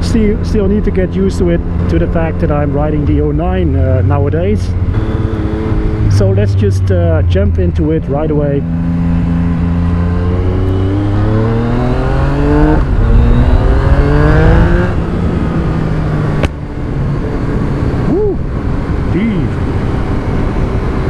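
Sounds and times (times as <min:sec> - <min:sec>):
motorcycle engine revving through gears: 0:00.0 - 0:21.0.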